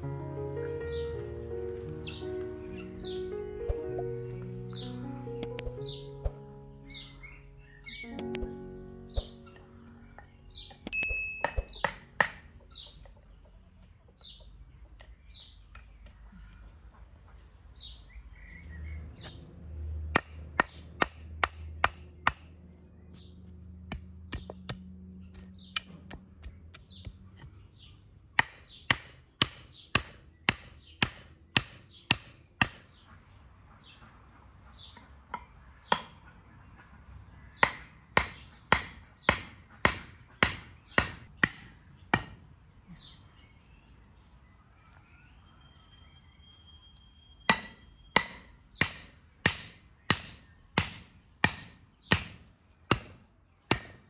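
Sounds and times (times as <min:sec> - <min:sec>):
birds chirping faintly: 0:00.0 - 0:20.0, 0:22.2 - 0:52.4.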